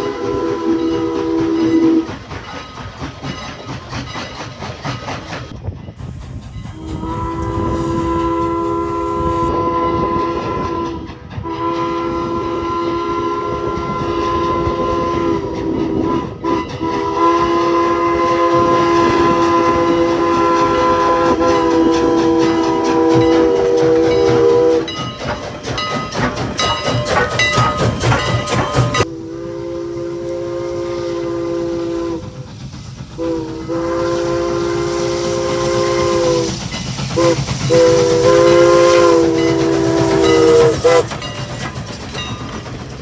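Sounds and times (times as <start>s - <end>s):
steam locomotive chime whistle: 0.0s - 42.8s
train rhythmic beating: 0.0s - 43.0s.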